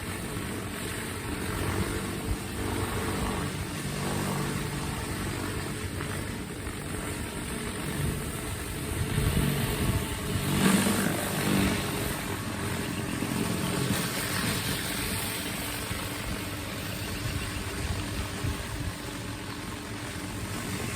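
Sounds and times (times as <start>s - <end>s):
high-pressure spray hiss: 0.0s - 20.9s
pressure washer engine running: 0.0s - 20.9s.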